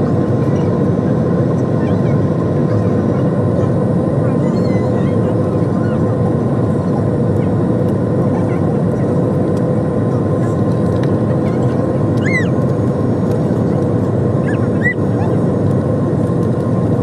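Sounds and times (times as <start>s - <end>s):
jet engines and rushing air: 0.0s - 17.0s
steady hum: 0.0s - 17.0s.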